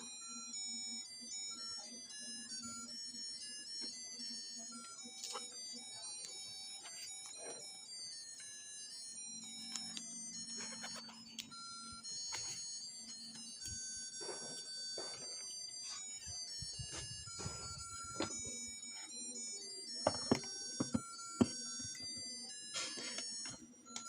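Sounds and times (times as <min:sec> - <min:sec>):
tinny electronic beeping melody: 0:00.0 - 0:24.0.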